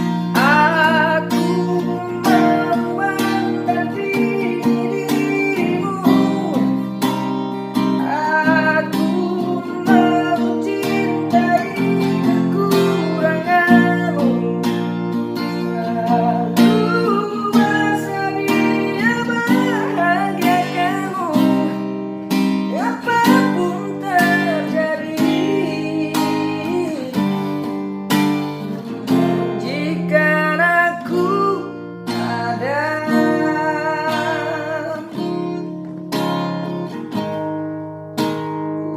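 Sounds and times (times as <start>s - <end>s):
person singing slow melody: 0.0s - 7.2s, 7.8s - 27.6s, 28.6s - 36.1s
strummed acoustic guitar: 0.0s - 38.9s.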